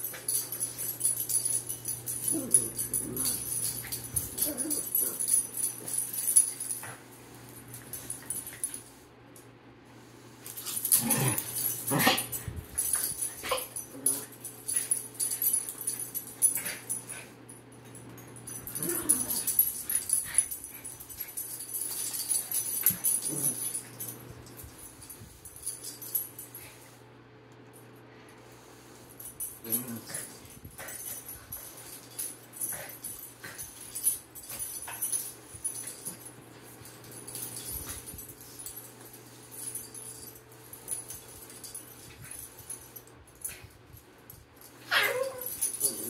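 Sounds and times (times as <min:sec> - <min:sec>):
collar tags jingling: 0:00.0 - 0:08.9, 0:10.4 - 0:26.8, 0:29.2 - 0:46.0
small dogs play-wrestling: 0:00.0 - 0:08.9, 0:10.4 - 0:27.0, 0:28.8 - 0:46.0.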